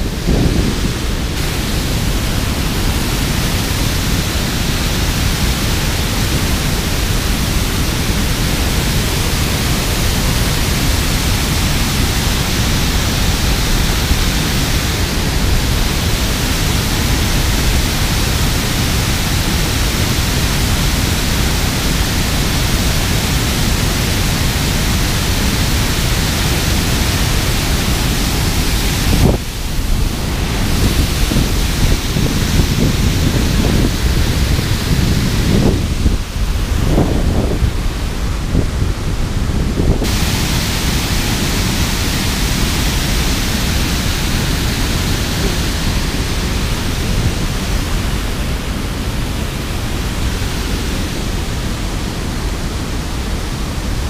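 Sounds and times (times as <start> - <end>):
water rushing over dam spillway: 0.0 - 54.0.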